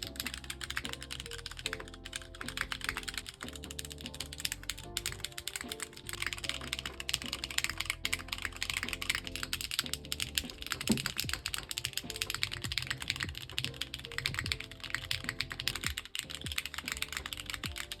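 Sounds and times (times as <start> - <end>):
background music: 0.0 - 18.0
mechanical keyboard typing: 0.0 - 18.0.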